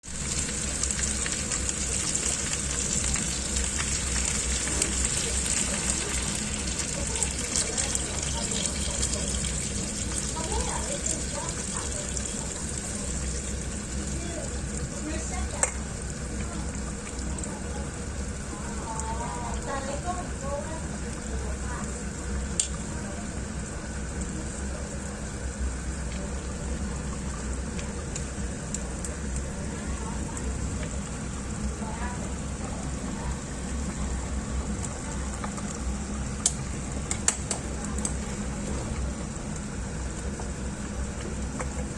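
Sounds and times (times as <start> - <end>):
chicken sizzling in a pan: 0.0 - 41.9.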